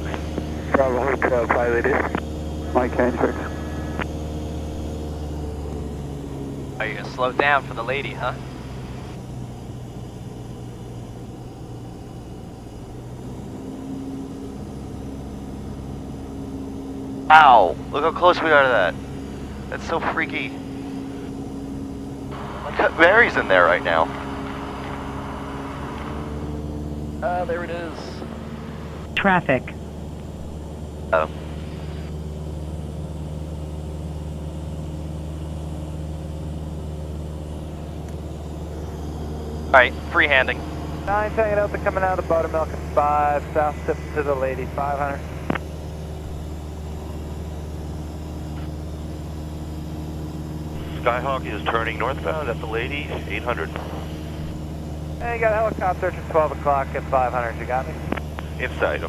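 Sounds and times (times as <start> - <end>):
higher steady tone: 0.0 - 32.3, 35.8 - 59.0
propeller plane engine droning: 0.0 - 59.0.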